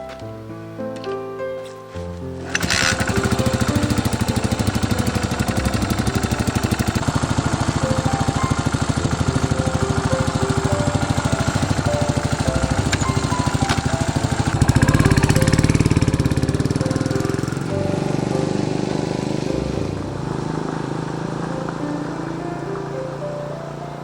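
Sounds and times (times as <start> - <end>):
motorcycle engine idling: 2.4 - 24.0.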